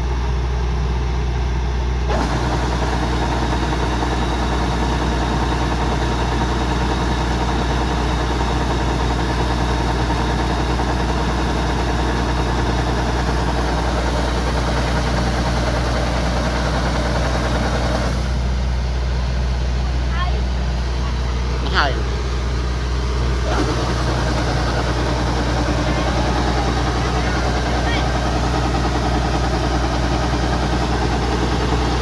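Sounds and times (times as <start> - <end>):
combine harvester engine hum: 0.0 - 32.0
harvesting machinery whirr: 0.0 - 32.0.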